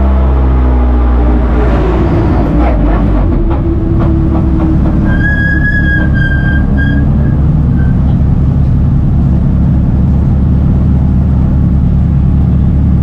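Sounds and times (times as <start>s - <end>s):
race car engine rumble: 0.0s - 13.0s
road noise: 0.0s - 13.0s.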